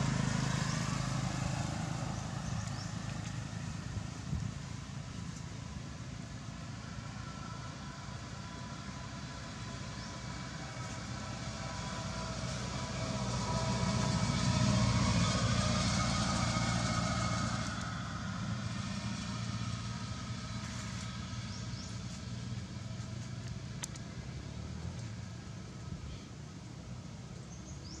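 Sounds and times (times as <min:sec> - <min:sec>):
vehicle engine passing: 0:00.0 - 0:28.0.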